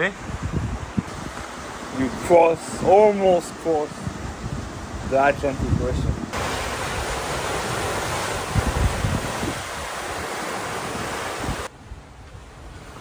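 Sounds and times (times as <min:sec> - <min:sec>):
sea wash: 0:00.0 - 0:13.0
wind buffeting microphone: 0:00.0 - 0:13.0.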